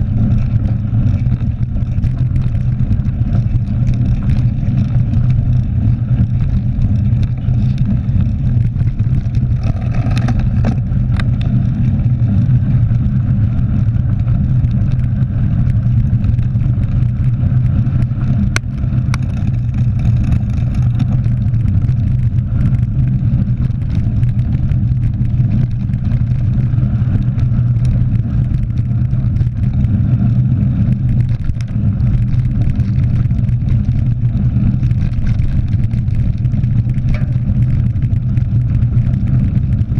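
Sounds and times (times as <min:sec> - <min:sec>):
bike tyres rolling on gravel: 0:00.0 - 0:39.9
wind rumble on microphone: 0:00.0 - 0:39.9.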